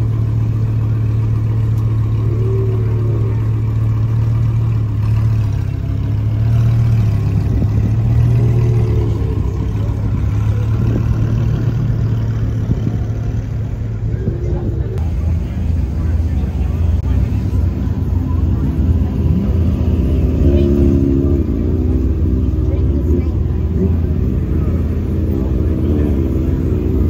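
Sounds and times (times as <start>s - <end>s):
car engine idling: 0.0s - 27.0s
car moving off slowly: 0.0s - 27.0s.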